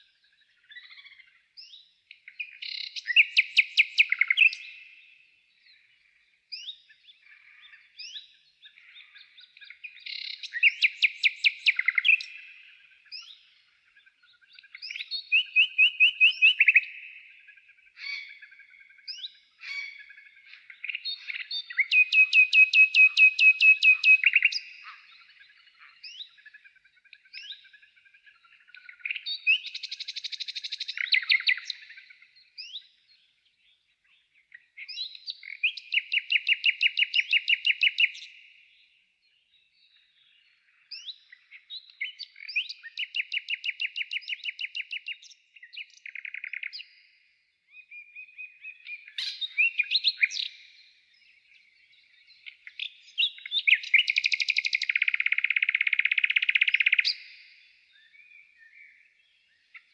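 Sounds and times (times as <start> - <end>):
songbird trilling and chirping: 0.0 - 59.9.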